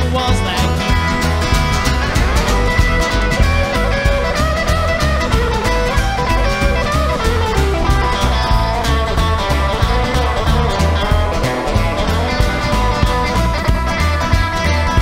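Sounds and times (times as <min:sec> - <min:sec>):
drums keeping a steady beat: 0:00.0 - 0:15.0
electric guitar: 0:00.0 - 0:15.0
upright double bass: 0:00.0 - 0:15.0.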